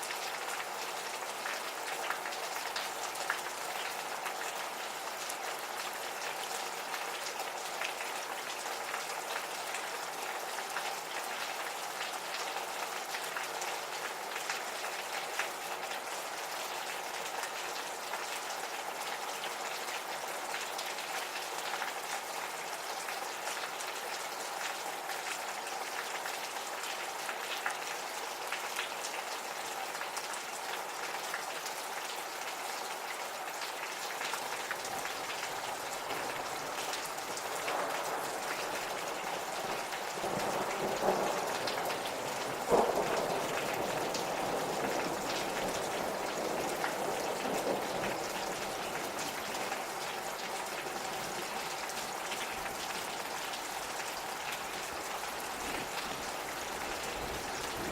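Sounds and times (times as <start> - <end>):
gentle rain: 0.0 - 57.9.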